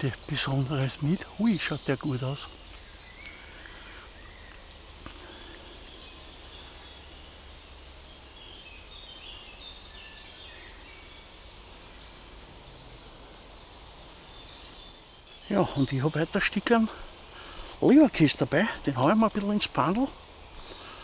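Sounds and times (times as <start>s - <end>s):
wild birds singing: 0.0s - 21.0s.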